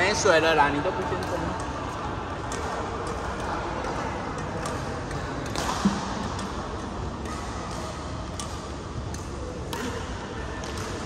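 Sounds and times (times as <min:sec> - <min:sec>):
shuttlecock hits from rackets: 0:01.1 - 0:11.0.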